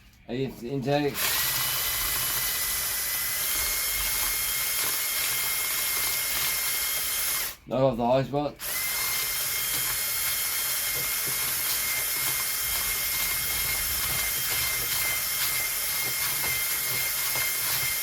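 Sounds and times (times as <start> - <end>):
small power tool whining: 1.1 - 7.7, 8.6 - 18.0.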